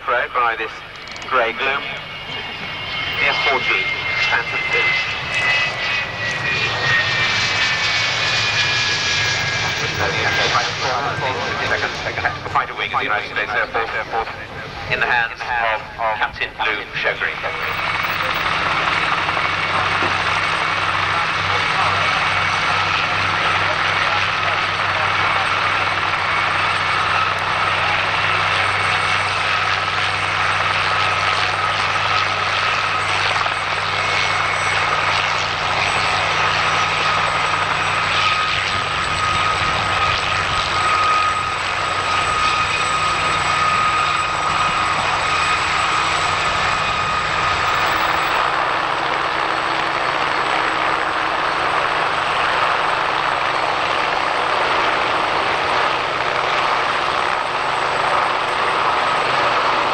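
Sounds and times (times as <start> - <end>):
helicopters flying low: 0.0 - 59.9.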